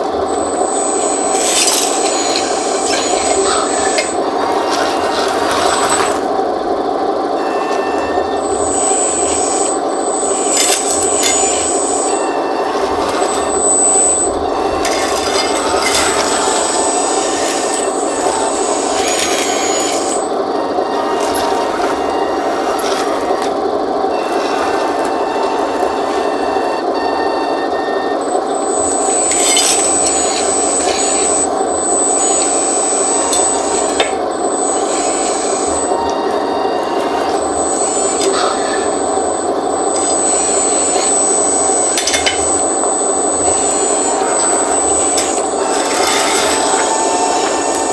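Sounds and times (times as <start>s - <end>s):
electric motor hum: 0.0s - 47.9s
high whine: 0.0s - 47.9s
hydraulic pump whirring: 0.0s - 47.9s.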